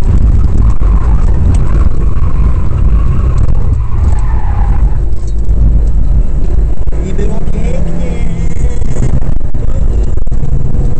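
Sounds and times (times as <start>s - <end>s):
rally car engine from inside: 0.0s - 10.9s.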